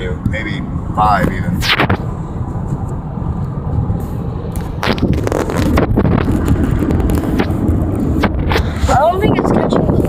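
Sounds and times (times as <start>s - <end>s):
car road noise rumble and hiss: 0.0s - 10.0s.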